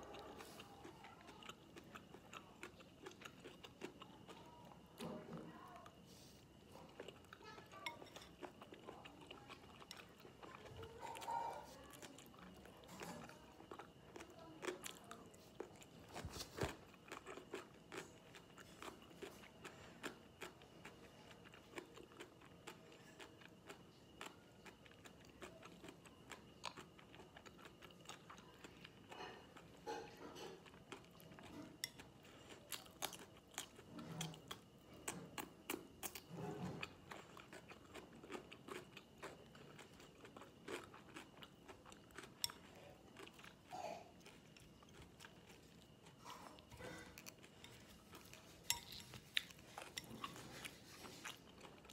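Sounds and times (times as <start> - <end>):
person chewing: 0.0 - 5.1, 5.8 - 51.9.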